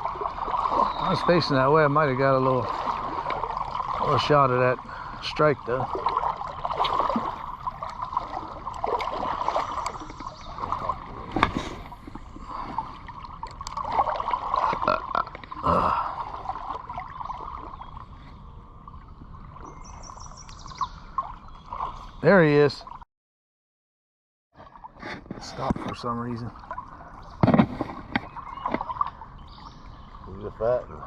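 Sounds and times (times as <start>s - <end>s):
creek water trickling: 0.0s - 23.0s, 24.6s - 31.0s.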